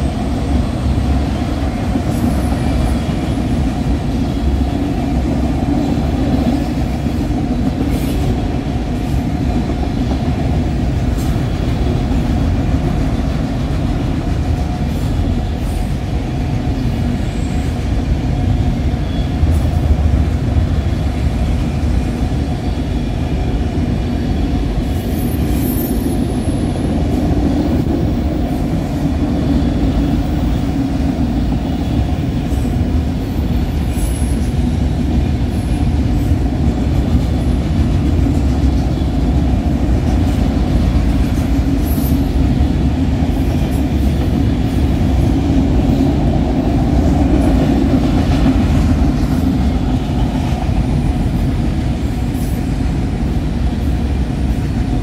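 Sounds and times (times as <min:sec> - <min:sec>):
railway cars rumbling past: 0:00.0 - 0:55.0.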